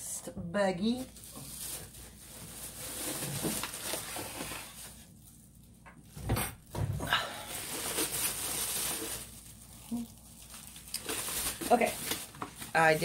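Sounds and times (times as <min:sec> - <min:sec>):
plastic bags rustling: 0:00.8 - 0:06.2, 0:07.1 - 0:13.0.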